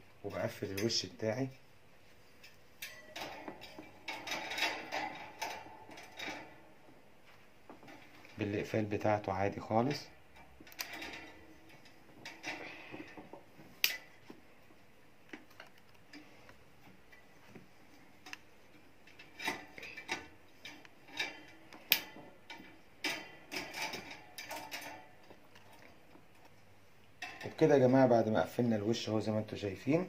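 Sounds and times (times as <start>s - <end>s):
metal fan guard clicks and rattles: 0.3s - 1.6s, 2.4s - 7.1s, 7.7s - 14.4s, 15.2s - 17.6s, 18.2s - 28.7s.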